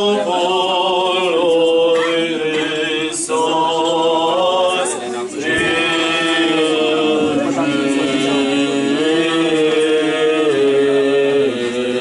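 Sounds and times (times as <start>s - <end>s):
choir chanting a cappella: 0.0s - 12.0s.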